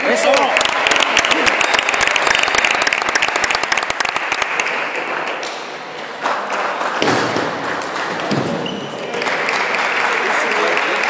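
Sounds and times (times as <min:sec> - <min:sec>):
spectators clapping: 0:00.0 - 0:11.0.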